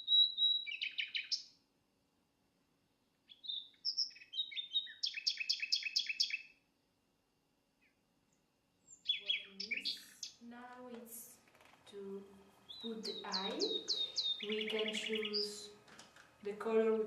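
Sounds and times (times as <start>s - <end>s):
songbird chirping: 0.0s - 1.7s, 2.6s - 7.0s, 7.7s - 17.0s.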